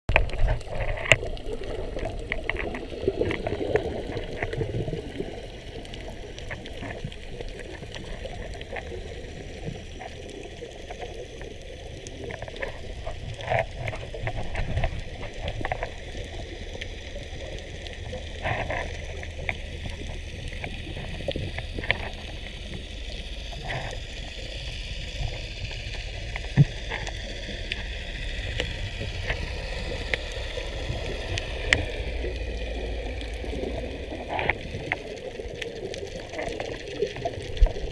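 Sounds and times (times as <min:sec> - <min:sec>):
clicks and knocks underwater: 0:00.1 - 0:37.9
muffled underwater rumble: 0:00.1 - 0:37.9.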